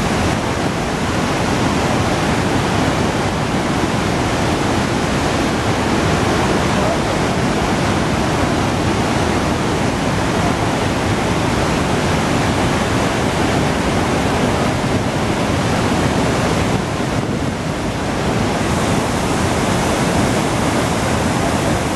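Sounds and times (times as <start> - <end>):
waterfall roar: 0.0 - 21.9.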